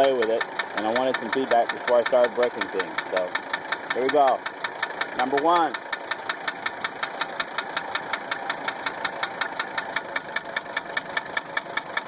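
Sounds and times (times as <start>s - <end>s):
diesel engine idling with knock: 0.0s - 12.0s.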